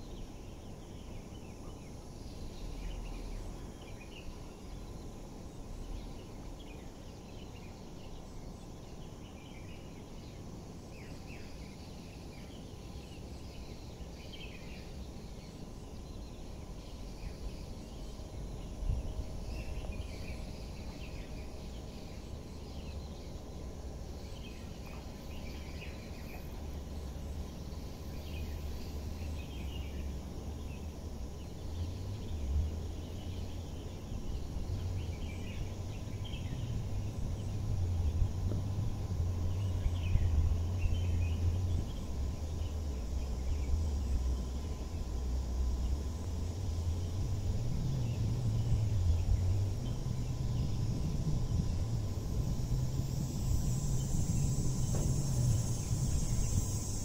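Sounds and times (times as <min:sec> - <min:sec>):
birds chirping: 0:00.0 - 0:57.0
electric train rumble: 0:00.0 - 0:57.0.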